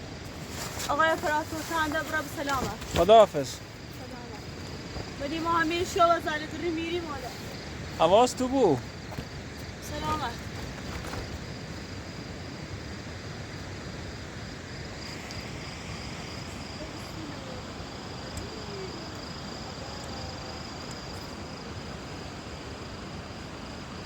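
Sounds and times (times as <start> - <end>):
background hiss: 0.0 - 24.0
crickets chirping: 0.0 - 24.0.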